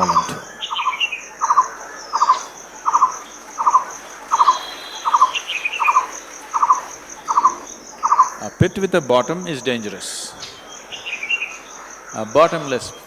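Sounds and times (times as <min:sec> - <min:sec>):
fast-pulsing insect trill: 0:00.0 - 0:13.0
high bird calls: 0:00.0 - 0:13.0.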